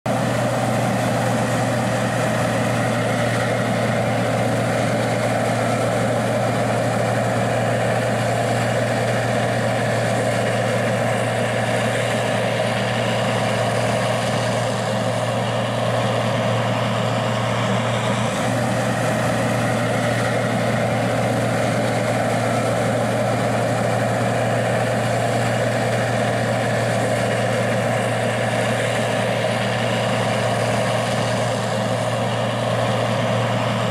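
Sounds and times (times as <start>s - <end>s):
combine diesel engine running: 0.0s - 33.9s.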